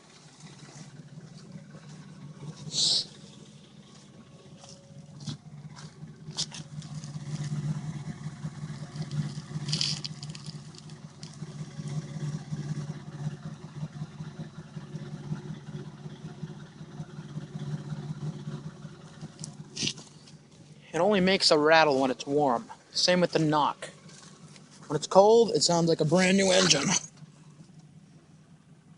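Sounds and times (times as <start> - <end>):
car engine running with rattle: 0.0 - 28.9.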